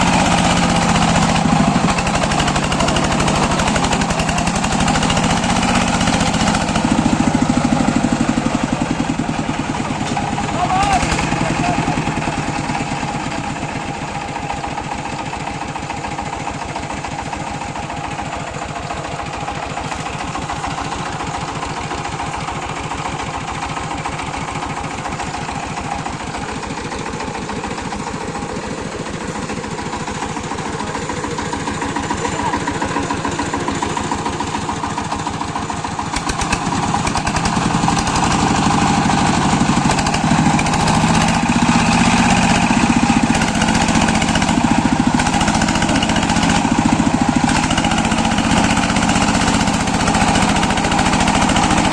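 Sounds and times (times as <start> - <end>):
power tiller engine running: 0.0 - 51.9.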